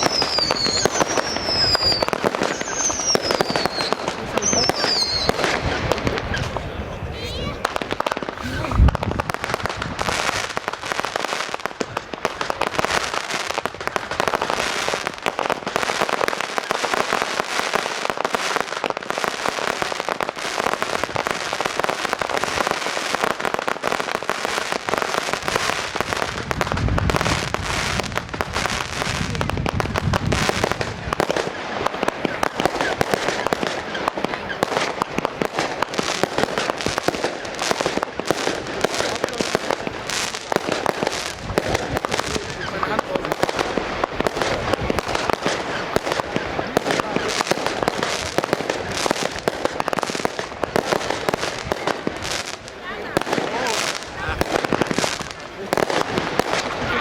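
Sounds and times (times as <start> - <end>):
deep firework booms: 0.0 - 57.0
fireworks crackling and popping: 0.0 - 57.0.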